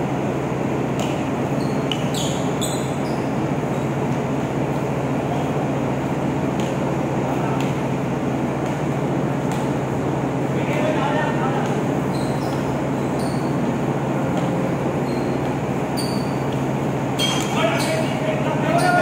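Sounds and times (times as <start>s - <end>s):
sneakers squeaking: 0.6s - 7.9s, 8.5s - 19.0s.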